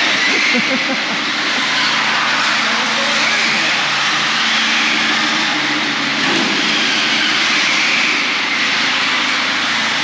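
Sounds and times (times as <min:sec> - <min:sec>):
electric toy car motors whining: 0:00.0 - 0:10.0.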